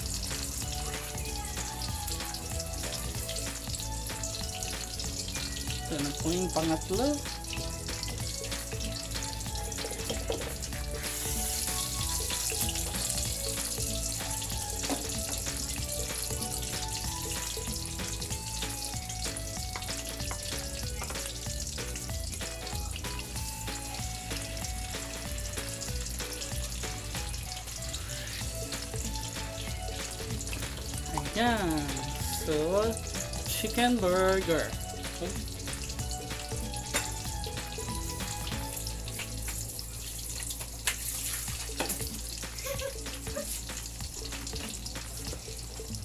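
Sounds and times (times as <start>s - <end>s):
background music: 0.0s - 46.0s
patties sizzling in a pan: 0.0s - 46.0s.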